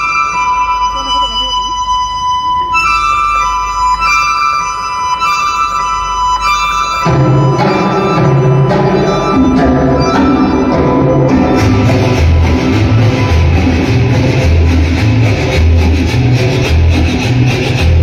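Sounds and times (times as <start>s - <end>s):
loud music through pa system: 0.0s - 18.0s.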